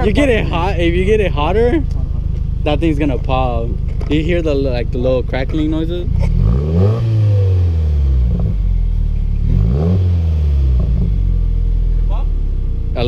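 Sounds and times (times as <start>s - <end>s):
car engine revving: 0.0s - 13.0s
exhaust crackles: 0.0s - 13.0s.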